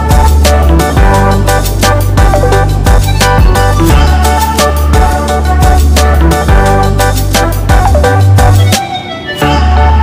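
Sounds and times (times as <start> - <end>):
music with deep bass beat: 0.0 - 8.8.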